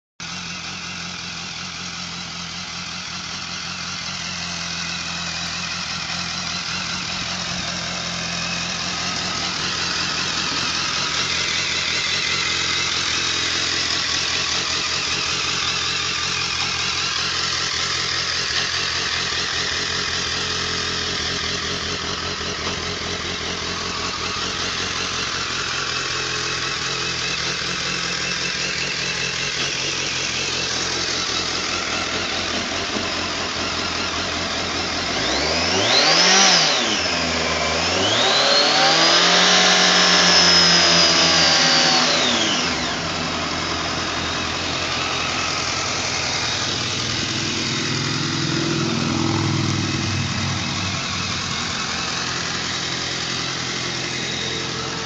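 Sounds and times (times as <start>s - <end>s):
motorcycle engine idling: 0.2s - 55.0s.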